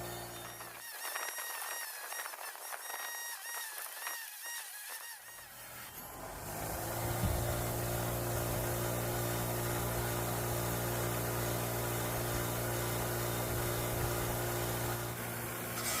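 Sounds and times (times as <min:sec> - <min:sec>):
wire wheel running: 0:00.0 - 0:15.2.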